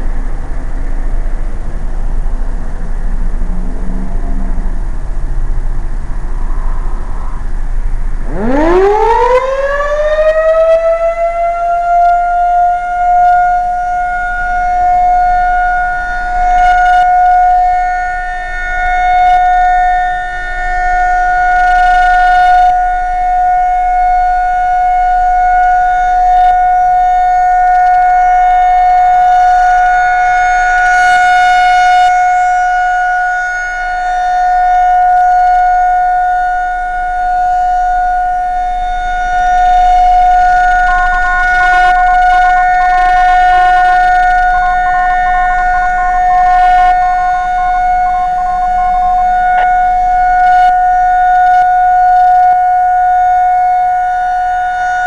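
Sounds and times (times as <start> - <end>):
outdoor warning siren: 0.0 - 55.0.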